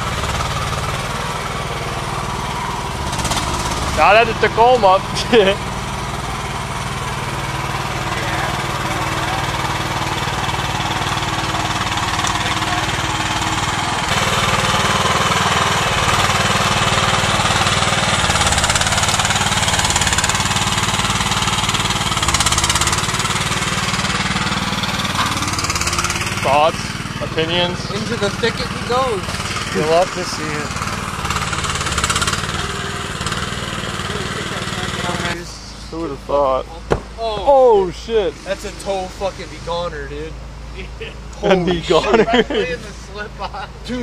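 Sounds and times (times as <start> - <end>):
excavator engine running: 0.0 - 44.0.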